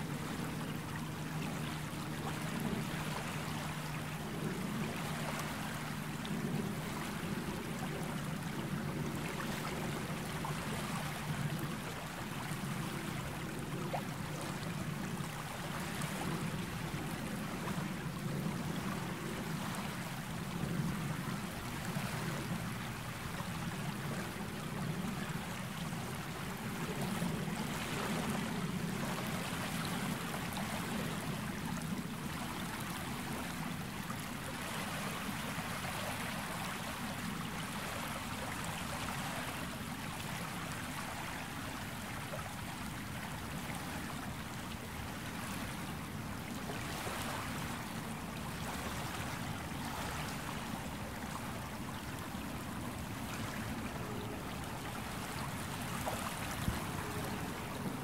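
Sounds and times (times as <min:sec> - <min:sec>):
gentle sea waves washing: 0:00.0 - 0:58.0.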